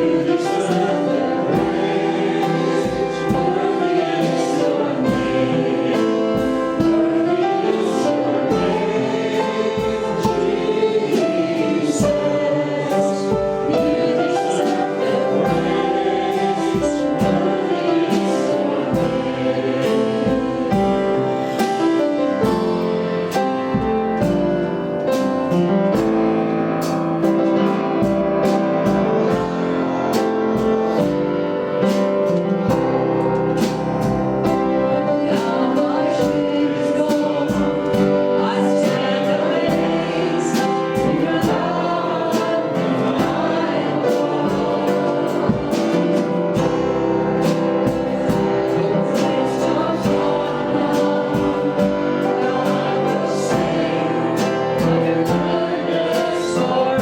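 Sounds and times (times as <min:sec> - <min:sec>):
group singing gospel praise song: 0:00.0 - 0:57.0
instrumental accompaniment: 0:00.0 - 0:57.0.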